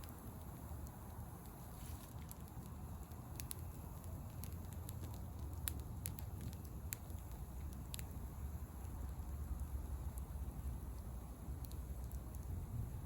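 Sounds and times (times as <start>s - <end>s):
bonfire crackling and popping: 0.0s - 13.0s
low steady rumble: 0.0s - 13.0s.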